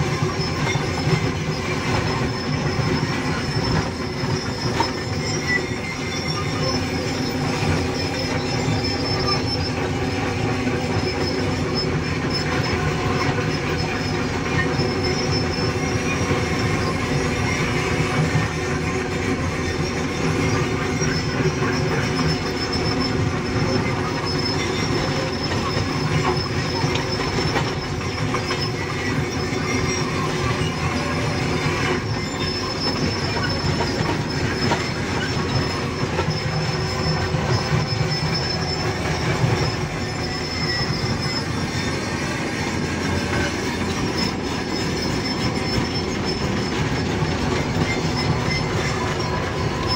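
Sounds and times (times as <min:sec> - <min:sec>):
excavator engine rumbling: 0:00.0 - 0:49.9.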